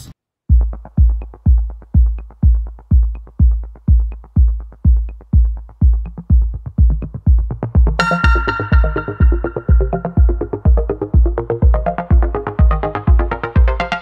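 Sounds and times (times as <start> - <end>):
electronic dance music: 0.5 - 14.0
heavy kick drum: 0.5 - 14.0
ticking beat: 0.5 - 14.0.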